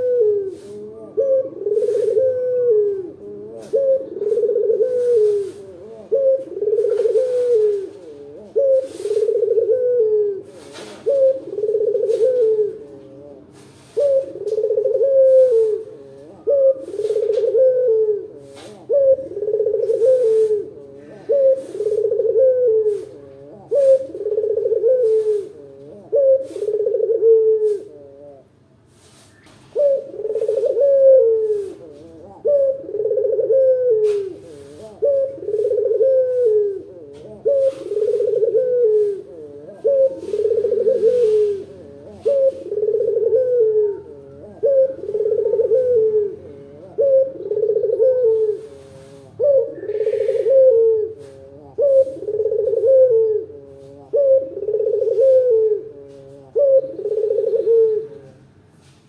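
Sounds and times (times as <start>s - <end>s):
dove cooing: 0.0s - 58.9s.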